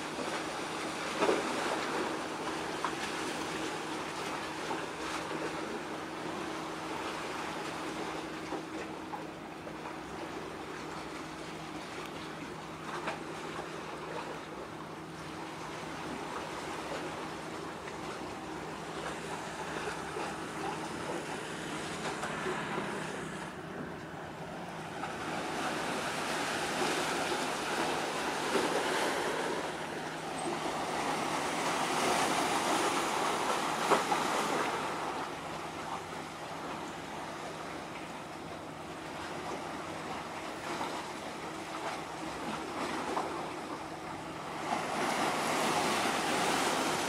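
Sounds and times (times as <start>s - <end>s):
faint low hum of ship engines: 0.0s - 47.0s
water washing against breakwater: 0.0s - 47.0s.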